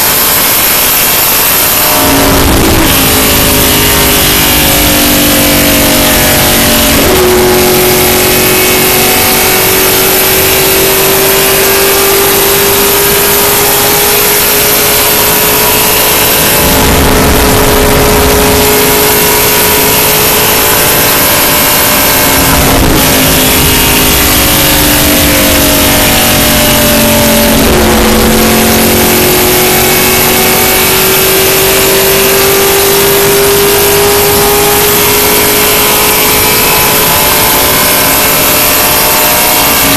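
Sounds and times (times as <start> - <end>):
race car engine running hard: 0.0 - 39.9
wind and road noise: 0.0 - 39.9.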